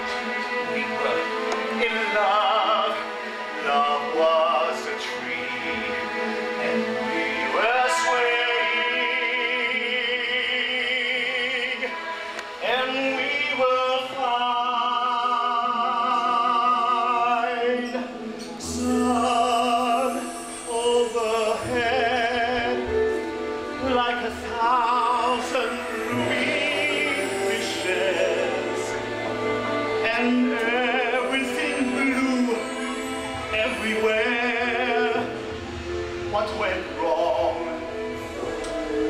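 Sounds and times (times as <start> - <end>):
man singing operatically: 0.0 - 35.6, 36.2 - 38.2.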